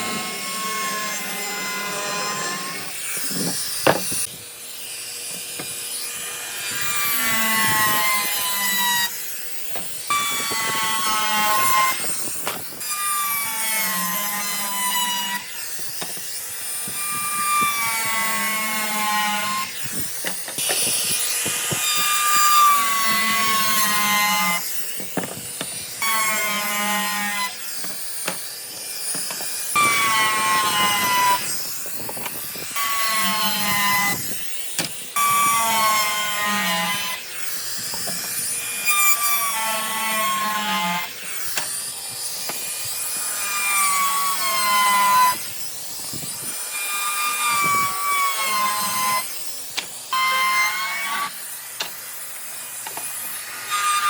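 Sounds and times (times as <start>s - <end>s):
power tool cutting wood: 0.0s - 54.0s.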